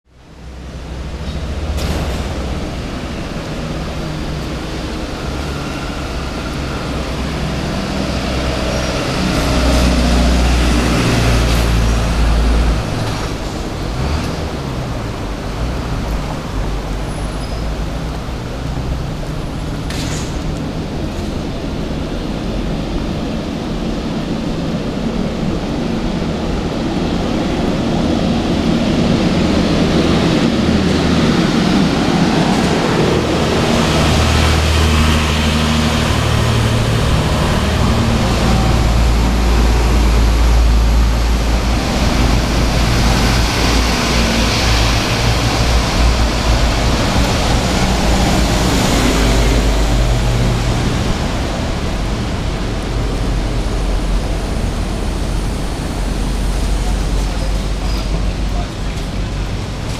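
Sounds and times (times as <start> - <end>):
bus engine rumble: 0.1 - 59.9
hiss of passing vehicles: 0.2 - 59.9.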